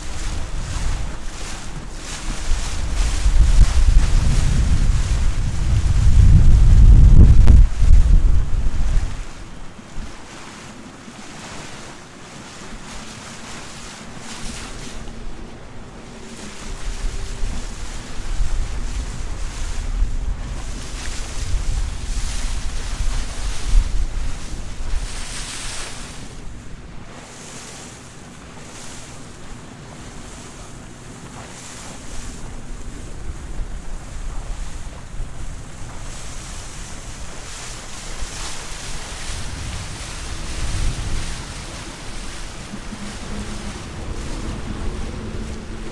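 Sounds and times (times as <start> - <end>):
choppy water slapping: 0.0 - 45.9
wind buffeting microphone: 0.0 - 45.9.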